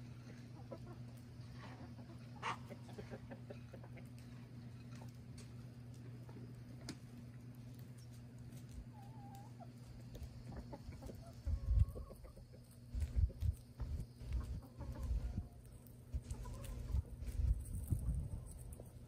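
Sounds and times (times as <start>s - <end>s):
hens clucking softly: 0.0s - 7.0s, 7.7s - 19.0s
steady low hum: 0.0s - 19.0s.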